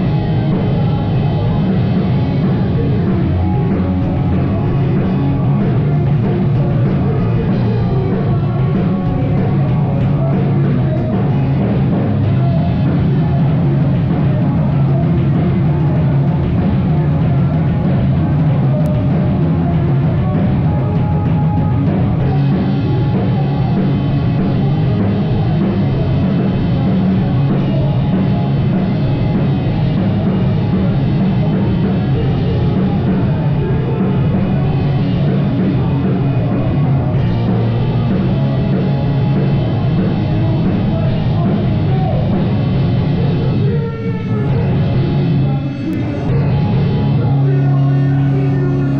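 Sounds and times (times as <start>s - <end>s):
drum kit: 0.0s - 48.9s
live rock band playing: 0.0s - 48.9s.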